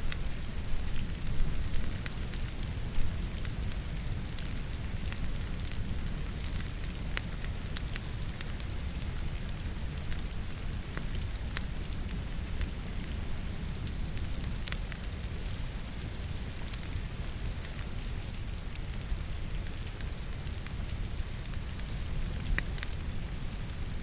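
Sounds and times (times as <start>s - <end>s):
rain falling: 0.0s - 24.0s
wood logs crackling in fireplace: 0.0s - 24.0s.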